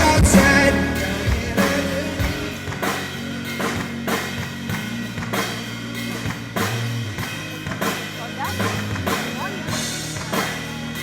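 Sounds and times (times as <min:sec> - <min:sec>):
drum kit steady beat: 0:00.0 - 0:11.0
live band playing: 0:00.0 - 0:11.0.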